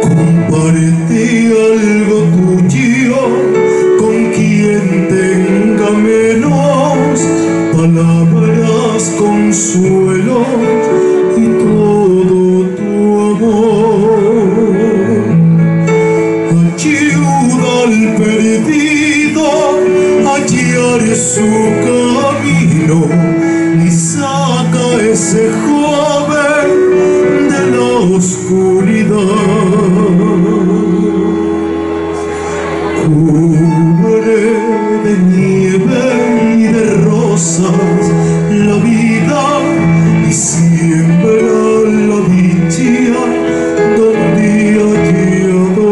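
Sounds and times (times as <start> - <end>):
man singing a ballad: 0.0 - 45.9.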